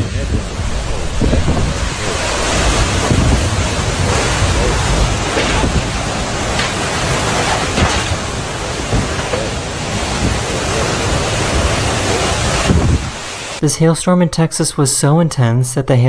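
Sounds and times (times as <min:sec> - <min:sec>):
intense wind rushing: 0:00.0 - 0:13.6
rain: 0:00.0 - 0:13.6.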